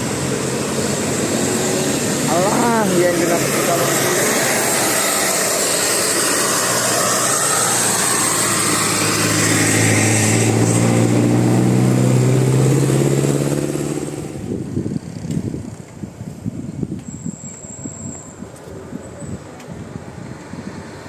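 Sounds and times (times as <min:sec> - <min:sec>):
bus engine accelerating: 0:00.0 - 0:21.0
bus passing by: 0:00.0 - 0:21.0.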